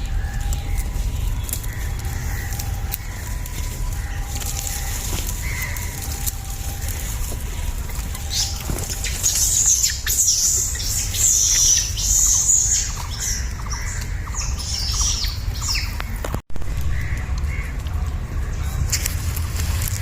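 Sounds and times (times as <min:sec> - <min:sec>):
high-pitched squeaking animal calls: 0:00.0 - 0:16.2
steady low rumble: 0:00.0 - 0:20.0.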